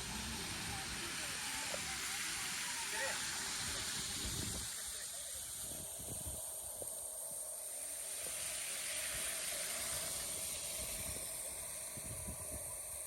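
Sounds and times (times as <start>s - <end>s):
falling water hiss: 0.0s - 13.0s.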